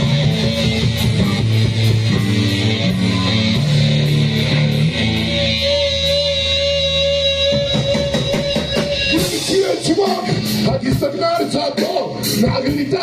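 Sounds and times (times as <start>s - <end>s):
steady high whine: 0.0s - 11.2s
distorted electric guitar riff: 0.0s - 13.0s.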